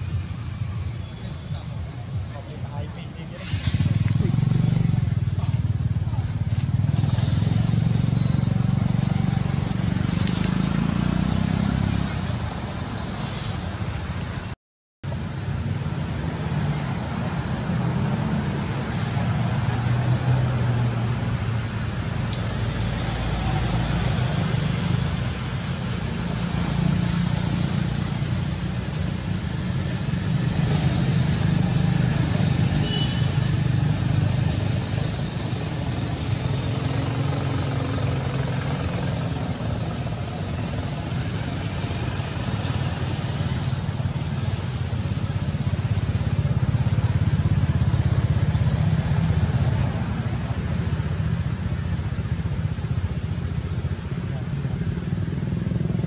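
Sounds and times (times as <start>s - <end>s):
vehicle engines rumbling: 0.0s - 56.0s.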